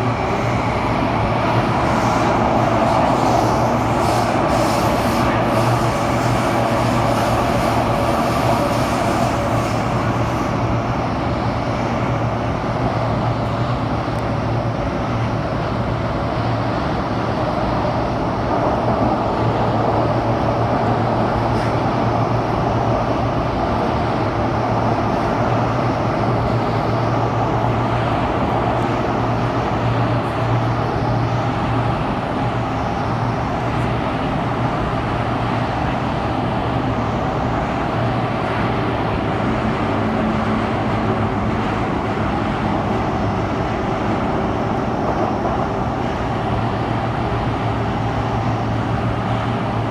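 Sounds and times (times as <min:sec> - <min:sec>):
metro train low drone: 0:00.0 - 0:49.9
wheel and rail noise: 0:00.0 - 0:49.9.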